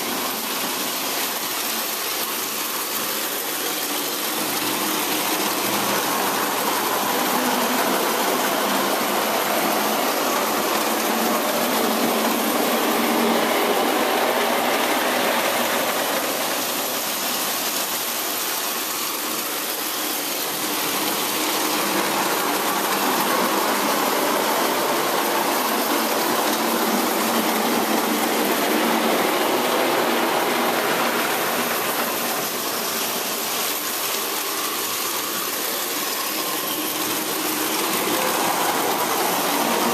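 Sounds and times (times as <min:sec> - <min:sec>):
toy train motor whirring: 0:00.0 - 0:39.9
wheels rattling on rails: 0:00.0 - 0:39.9.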